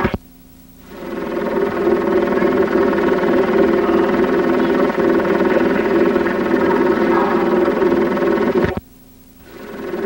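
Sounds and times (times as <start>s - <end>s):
steady drone: 0.8s - 8.8s, 9.4s - 10.0s.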